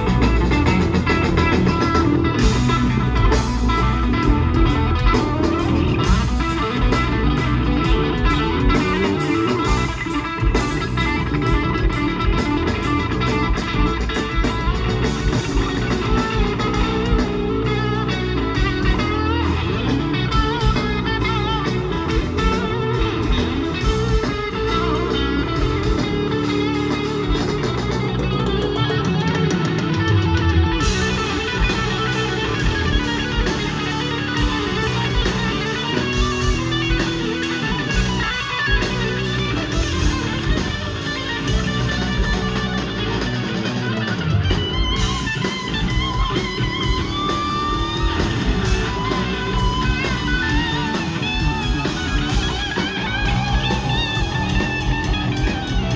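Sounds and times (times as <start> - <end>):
bass guitar: 0.0 - 55.9
drums: 0.0 - 55.9
electric guitar: 0.0 - 55.9.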